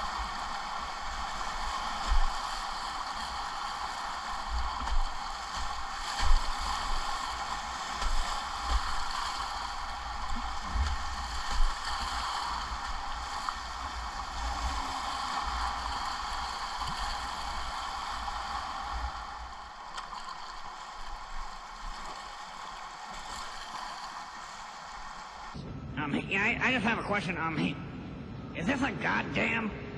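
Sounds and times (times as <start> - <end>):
whitewater rushing: 0.0 - 25.5.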